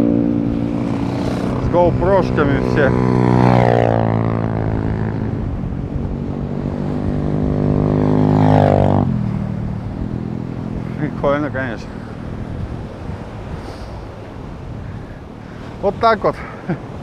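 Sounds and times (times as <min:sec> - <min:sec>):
dirt bike engines passing: 0:00.0 - 0:17.0
wind noise on microphone: 0:00.0 - 0:17.0.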